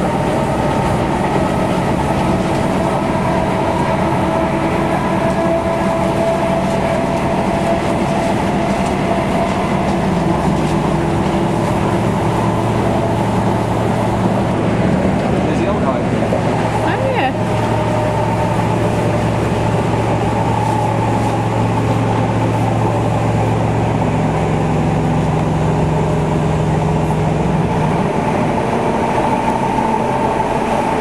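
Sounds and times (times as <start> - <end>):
rumble of wheels on rail: 0.0 - 31.0.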